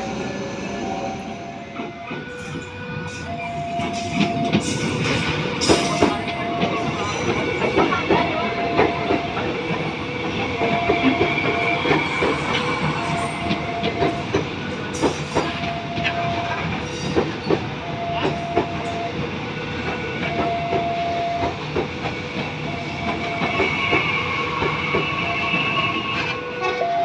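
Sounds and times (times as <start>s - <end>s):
train wheels clicking and rumbling: 0.0s - 26.9s
level-crossing warning alarm tone: 0.0s - 27.0s.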